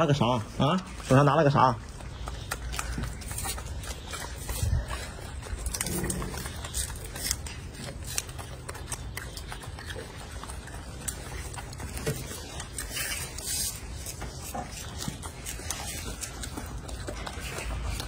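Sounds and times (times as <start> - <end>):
monkeys tearing lettuce leaves: 0.0 - 18.0.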